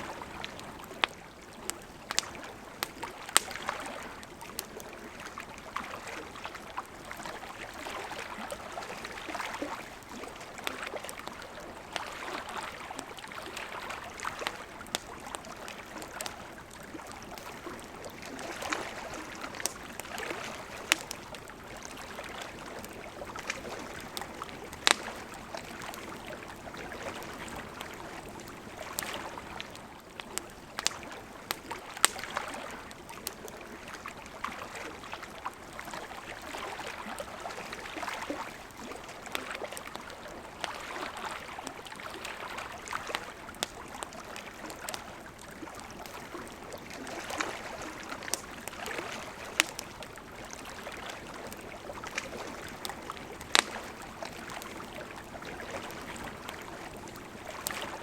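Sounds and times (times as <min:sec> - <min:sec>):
campfire crackling: 0:00.0 - 0:58.0
water lapping at shore: 0:00.0 - 0:58.0.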